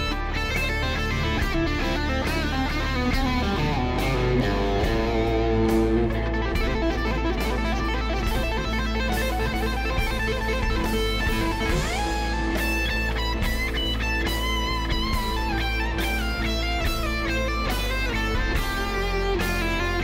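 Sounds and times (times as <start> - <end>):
electric guitar solo: 0.0 - 20.0.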